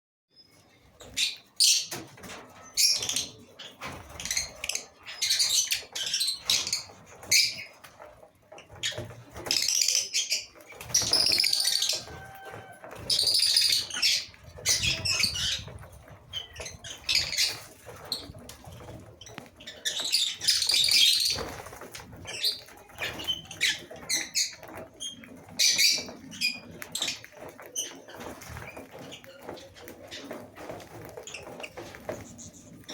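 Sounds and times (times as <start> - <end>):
lovebirds chirping and squawking: 0.3 - 32.9
wings fluttering: 0.6 - 32.9.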